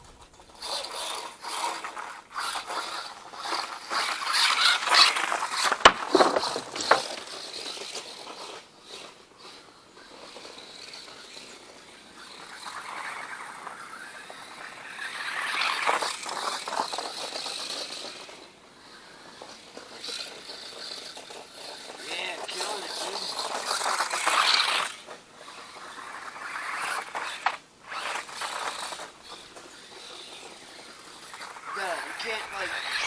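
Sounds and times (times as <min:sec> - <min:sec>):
rc truck tires churning snow: 0:00.0 - 0:33.0.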